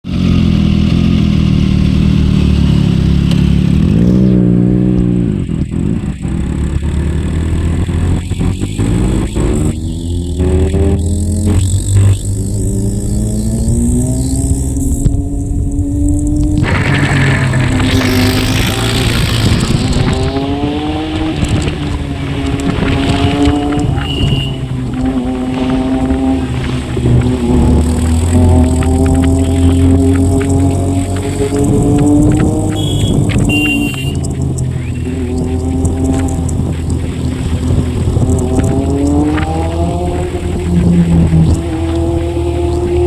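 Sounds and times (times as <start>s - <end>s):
exhaust pops and crackles: 0.0s - 43.0s
motorcycle exhaust idling and revving: 0.0s - 43.0s.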